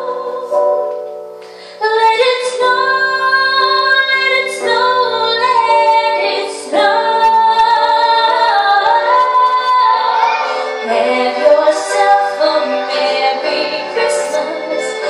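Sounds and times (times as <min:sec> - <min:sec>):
girl singing into microphone: 0:00.0 - 0:01.0, 0:01.6 - 0:15.0.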